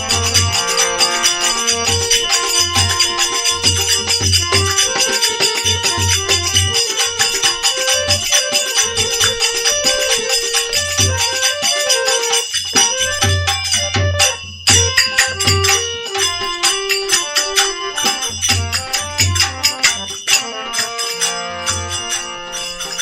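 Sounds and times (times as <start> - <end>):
jingling percussion: 0.0 - 23.0
melody instrument holding notes: 0.0 - 23.0.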